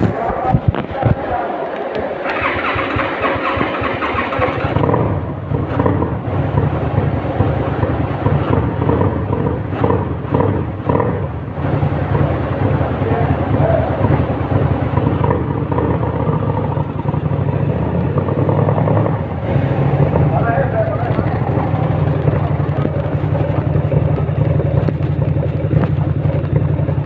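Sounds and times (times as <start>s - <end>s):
motorcycle engine starting and idling: 0.0s - 27.0s.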